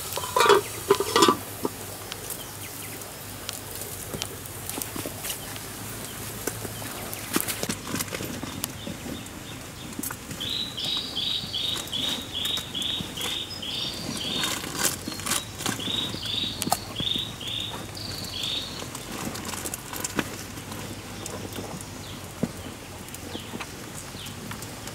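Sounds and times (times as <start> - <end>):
campfire crackling: 0.0 - 24.9.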